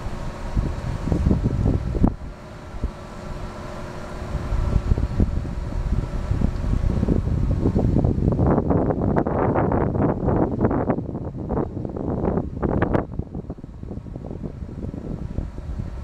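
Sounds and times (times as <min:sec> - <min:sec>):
faint machinery hum: 0:00.0 - 0:16.0
wind buffeting microphone: 0:00.0 - 0:16.0.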